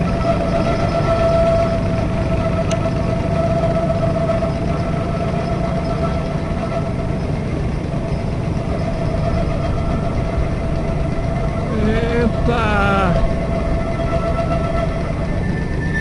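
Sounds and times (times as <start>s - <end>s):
industrial machinery hum with whine: 0.0s - 16.0s.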